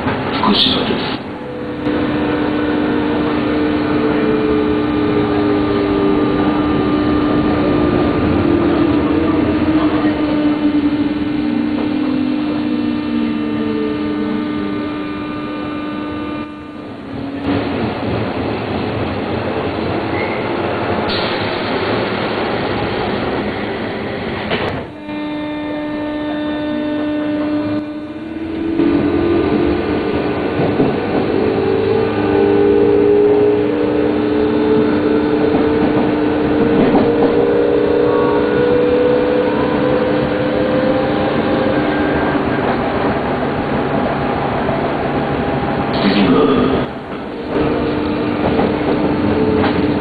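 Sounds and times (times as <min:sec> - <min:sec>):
electric train rumbling: 0:00.0 - 0:50.0
train motors whining: 0:00.0 - 0:50.0.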